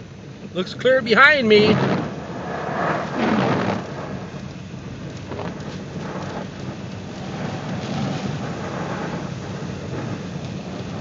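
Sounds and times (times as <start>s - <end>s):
heavy rain on car roof: 0.6s - 11.0s
low thunder rumble: 1.1s - 11.0s.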